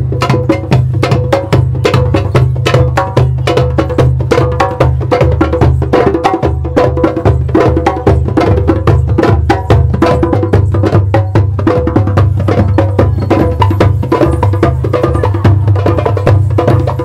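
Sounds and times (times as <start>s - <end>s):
fast busy percussion: 0.0s - 17.0s.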